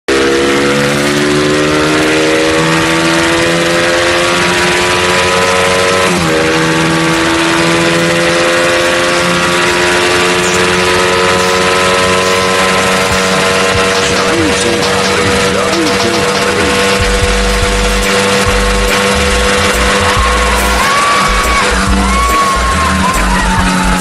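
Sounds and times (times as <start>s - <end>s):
motorcycle engine running hard: 0.1s - 24.0s.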